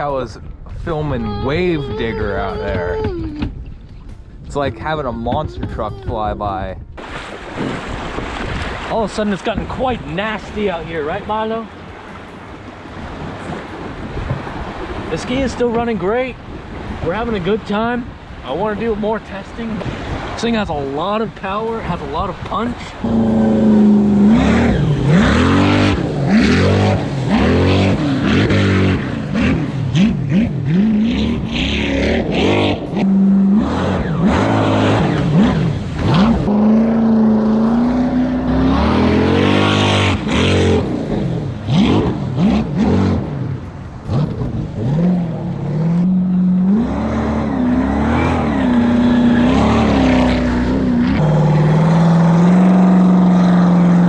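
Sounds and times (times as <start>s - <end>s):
jet ski engine revving: 7.5s - 54.0s.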